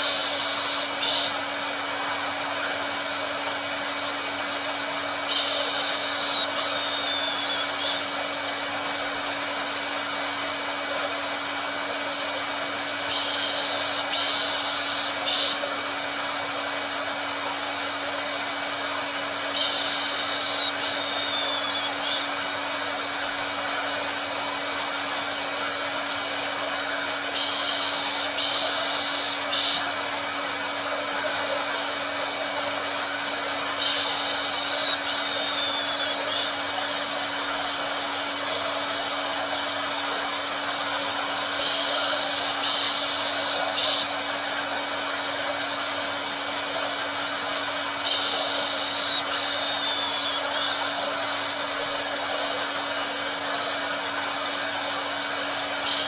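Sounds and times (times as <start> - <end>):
high hiss: 0.0 - 9.8, 12.8 - 16.8, 17.5 - 56.0
hair dryer running: 0.0 - 56.0.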